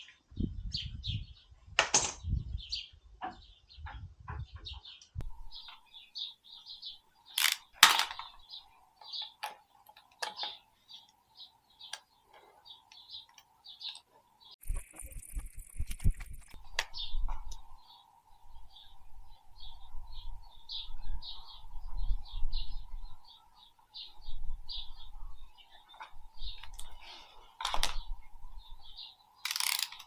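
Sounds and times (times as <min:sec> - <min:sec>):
small birds chirping: 0:00.0 - 0:01.6, 0:02.2 - 0:30.0.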